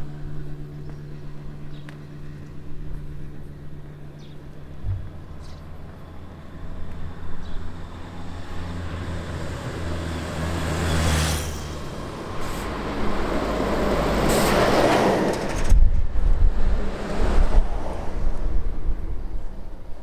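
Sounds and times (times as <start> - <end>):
vehicle engine and tyre noise: 0.0 - 20.0.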